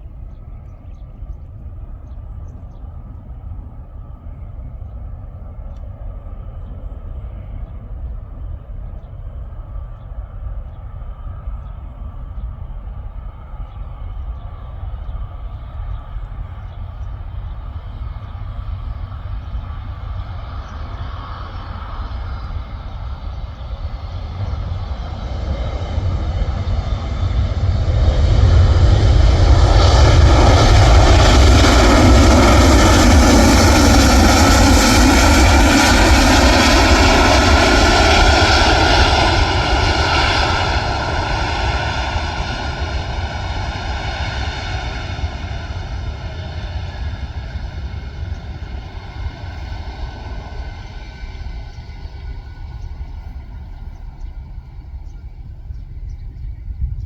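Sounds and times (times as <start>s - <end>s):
airliner engines passing: 0.0s - 57.0s.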